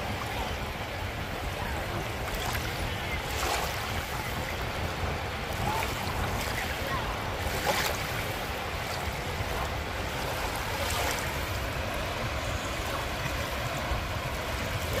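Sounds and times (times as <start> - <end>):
small water splashes: 0.0 - 15.0.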